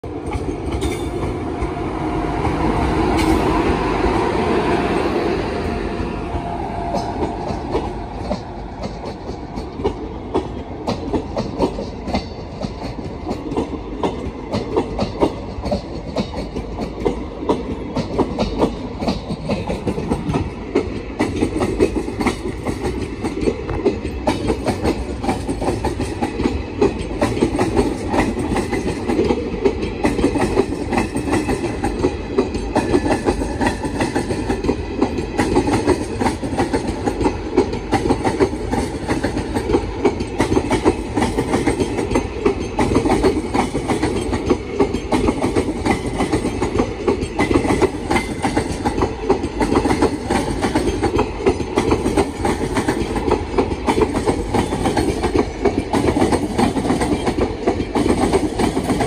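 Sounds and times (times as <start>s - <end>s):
electric locomotive passing: 0.0s - 59.0s
train wheels clickety-clack: 0.0s - 59.0s.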